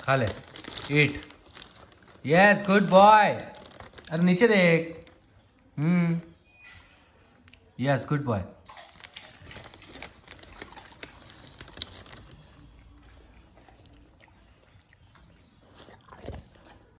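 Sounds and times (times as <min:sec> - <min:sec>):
dog crunching a potato chip: 0:00.0 - 0:05.8, 0:08.6 - 0:17.0.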